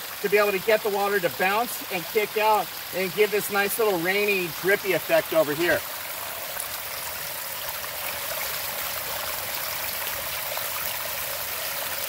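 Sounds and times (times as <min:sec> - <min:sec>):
water trickling onto rocks: 0:00.0 - 0:12.0.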